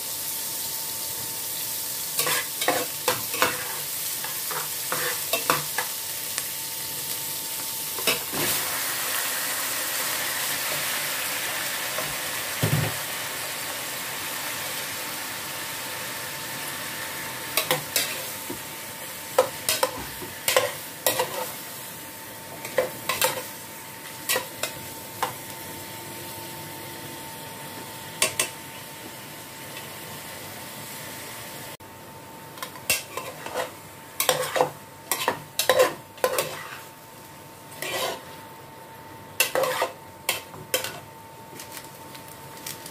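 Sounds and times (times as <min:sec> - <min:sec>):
food sizzling in hot oil: 0:00.0 - 0:27.0, 0:32.6 - 0:42.9
chicken sizzling: 0:00.0 - 0:42.9.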